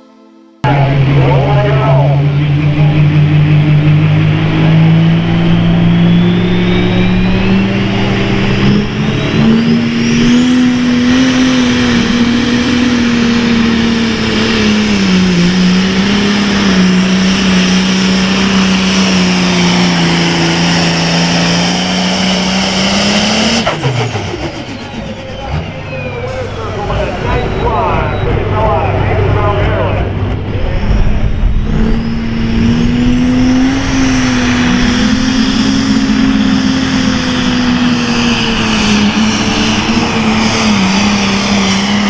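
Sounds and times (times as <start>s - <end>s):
high turbo whine: 0.0s - 42.0s
tractor diesel engine under load: 0.6s - 42.0s.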